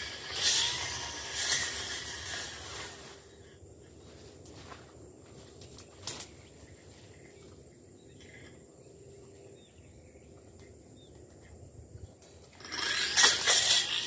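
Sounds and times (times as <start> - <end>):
insect chirps: 0.0 - 14.0.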